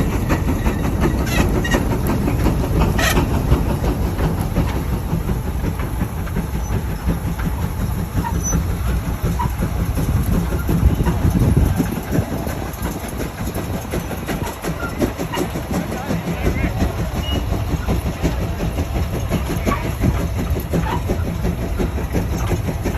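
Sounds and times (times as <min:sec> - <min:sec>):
steam engine clattering: 0:00.0 - 0:22.9.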